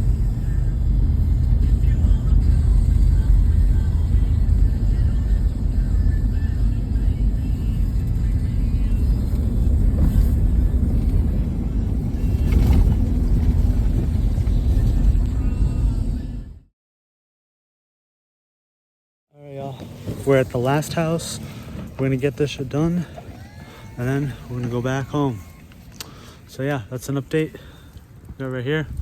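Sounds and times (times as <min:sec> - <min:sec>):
vehicle engine rumbling: 0:00.0 - 0:16.7, 0:19.5 - 0:29.0.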